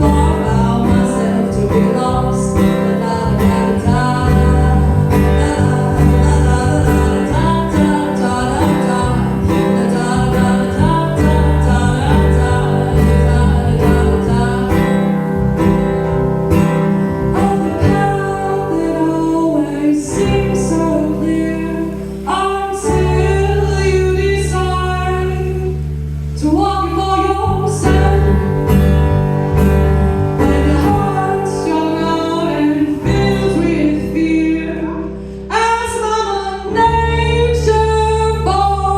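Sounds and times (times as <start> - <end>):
guitar chords: 0.0 - 38.9
woman singing: 0.0 - 38.9.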